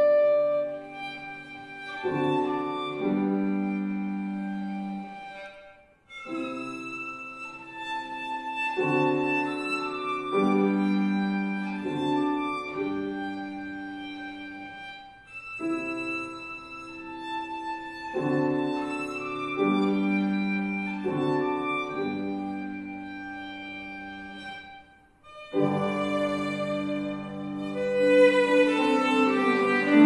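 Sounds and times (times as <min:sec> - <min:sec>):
piano accompaniment: 0:00.0 - 0:30.0
violin playing long bowed notes: 0:00.0 - 0:30.0.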